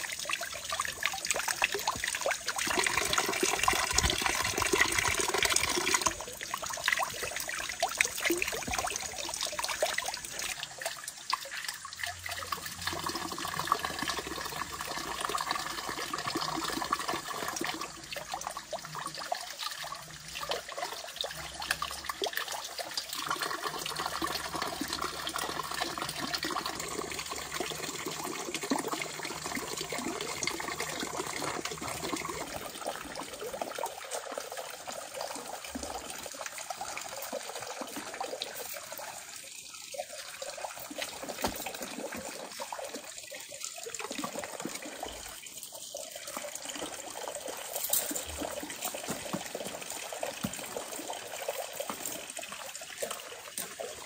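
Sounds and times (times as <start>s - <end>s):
running water splashing: 0.0s - 23.6s, 24.4s - 54.0s.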